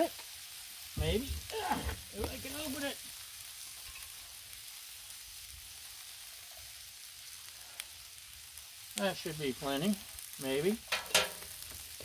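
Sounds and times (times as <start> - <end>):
shrimp sizzling in oil: 0.0 - 12.0.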